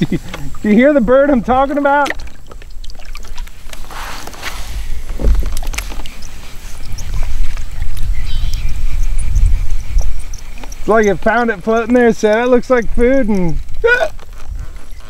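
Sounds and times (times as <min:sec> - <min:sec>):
water around a paddled kayak: 0:00.0 - 0:15.0
wind rumbling on microphone: 0:00.0 - 0:15.0.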